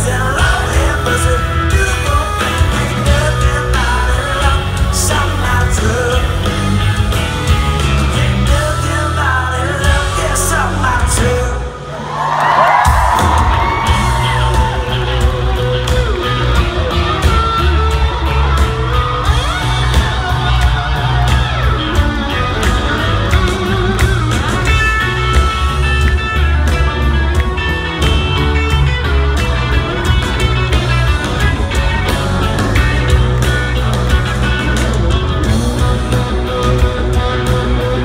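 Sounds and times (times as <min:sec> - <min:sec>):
electric guitars: 0:00.0 - 0:38.0
live rock band playing: 0:00.0 - 0:38.0.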